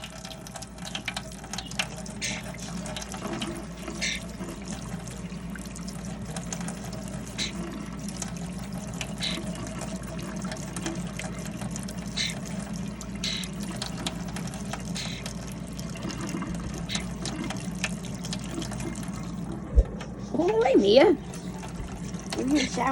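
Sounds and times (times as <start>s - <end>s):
water running from a tap: 0.0s - 22.9s.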